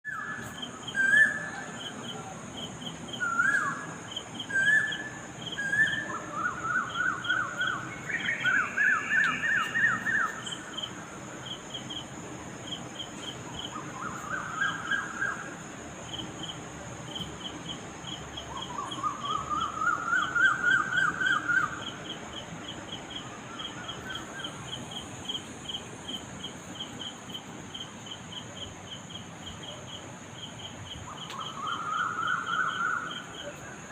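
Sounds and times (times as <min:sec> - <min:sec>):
steady high hiss: 0:00.1 - 0:33.9.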